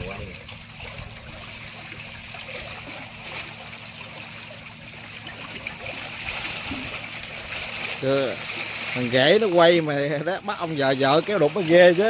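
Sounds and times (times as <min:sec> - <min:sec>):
water rushing through sluice gate: 0:00.0 - 0:12.0.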